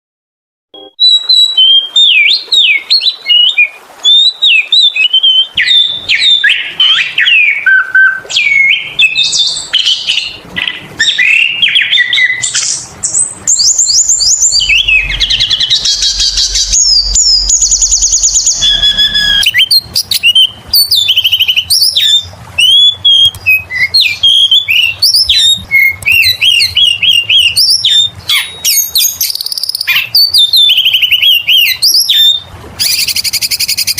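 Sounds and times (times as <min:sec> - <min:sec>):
bird singing whistles and trills: 0:00.8 - 0:33.9.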